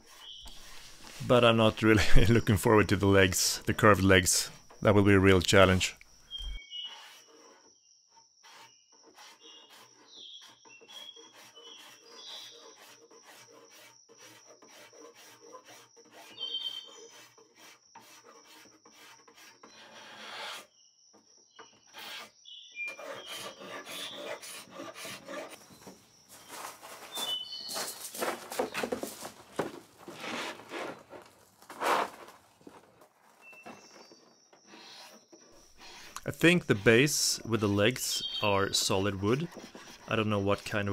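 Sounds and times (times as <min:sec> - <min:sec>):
paint scraper scraping wood: 0:00.0 - 0:02.9, 0:06.3 - 0:20.8, 0:21.6 - 0:40.9
birds chirping faintly: 0:00.0 - 0:08.0, 0:08.6 - 0:12.9, 0:15.5 - 0:17.4, 0:19.5 - 0:30.1, 0:31.0 - 0:40.9.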